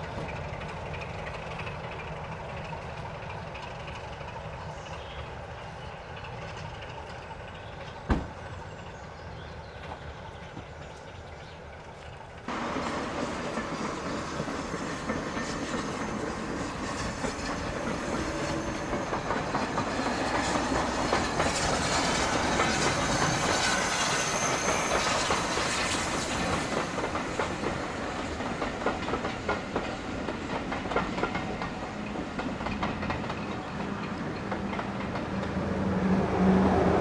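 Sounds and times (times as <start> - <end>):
train wheels clattering over rail joints: 0.0 - 35.7.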